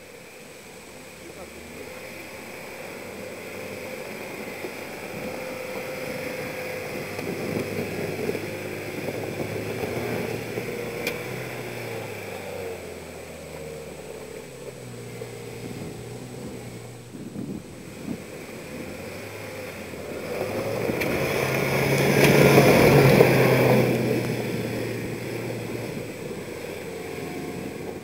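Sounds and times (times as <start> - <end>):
small vehicle engine running: 0.0 - 28.0.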